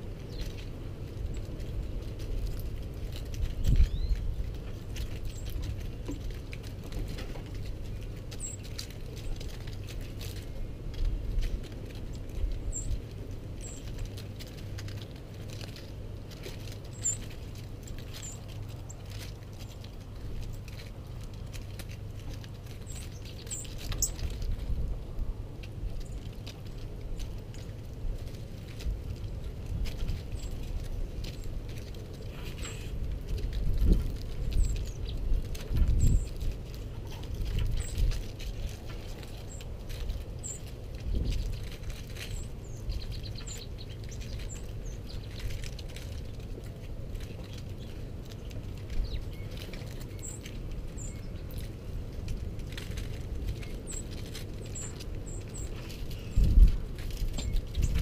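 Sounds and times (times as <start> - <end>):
constant low rumble: 0.0 - 58.0
small birds chirping: 0.0 - 58.0.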